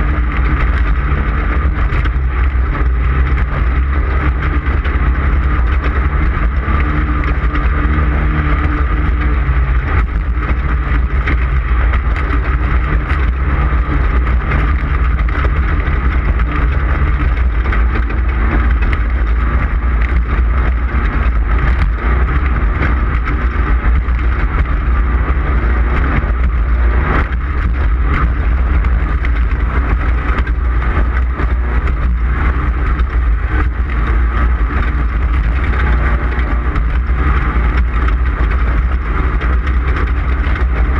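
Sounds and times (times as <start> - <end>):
fine rattling and clatter: 0.0 - 40.9
race vehicle engine rumbling: 0.0 - 40.9.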